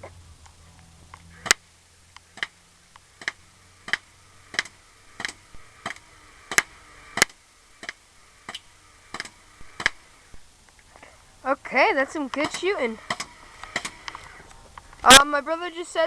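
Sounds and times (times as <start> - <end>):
toy tank firing pellets with sharp pops: 1.1 - 10.9, 11.9 - 15.4.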